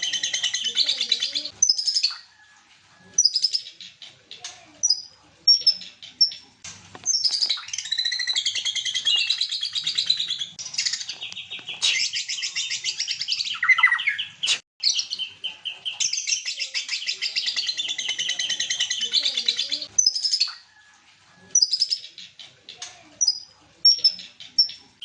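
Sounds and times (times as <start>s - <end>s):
bird singing trills and chattering: 0.0s - 2.3s, 3.1s - 20.6s, 21.4s - 24.9s.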